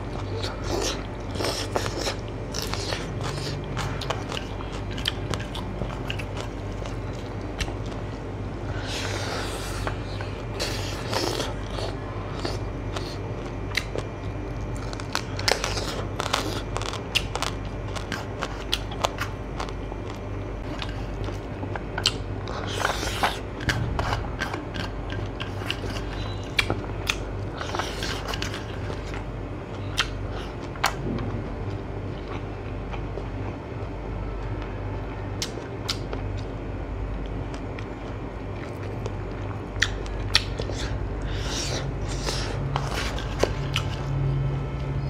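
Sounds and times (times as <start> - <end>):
person chewing food: 0.0 - 45.0
steady low hum: 0.0 - 45.0.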